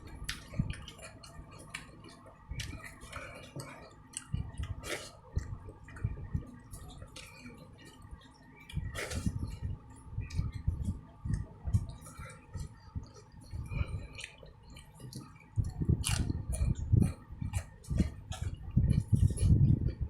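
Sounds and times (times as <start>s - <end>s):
person chewing with wet smacking: 0.0s - 20.0s.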